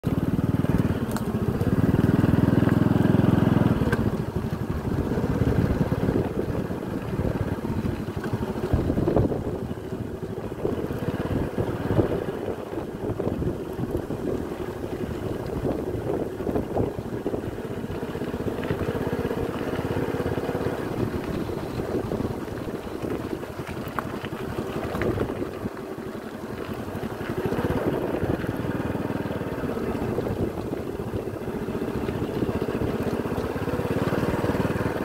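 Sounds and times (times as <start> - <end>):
small motorcycle engine running: 0.0 - 35.0.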